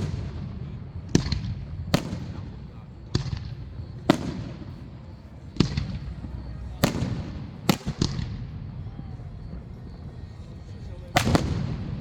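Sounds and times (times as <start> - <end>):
fireworks bangs with rolling echo: 0.0 - 12.0.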